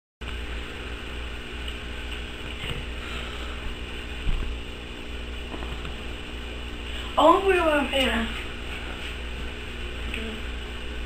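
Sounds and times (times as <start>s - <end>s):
room hum and hiss: 0.2s - 11.0s.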